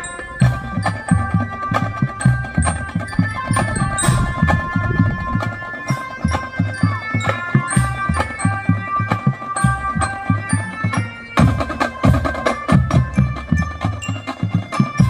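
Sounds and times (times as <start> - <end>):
sustained melody notes: 0.0 - 15.0
marching drums beating: 0.4 - 15.0.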